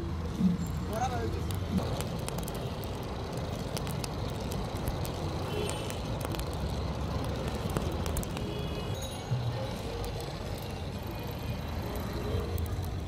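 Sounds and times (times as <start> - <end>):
charcoal fire crackling: 0.0 - 13.0
traffic rumble: 0.0 - 13.0.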